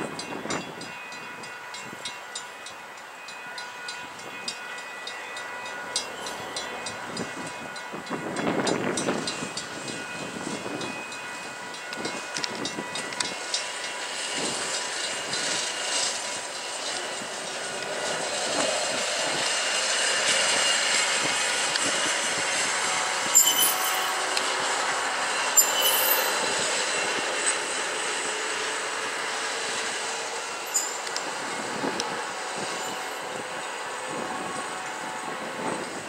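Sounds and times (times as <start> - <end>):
wheels rolling on rail: 0.0 - 36.0
wheels squealing on rail: 0.0 - 36.0.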